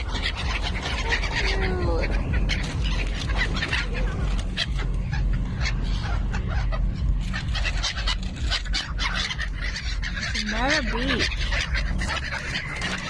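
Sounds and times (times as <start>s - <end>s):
flock of birds crying: 0.0s - 13.0s
steady low rumble: 0.0s - 13.0s.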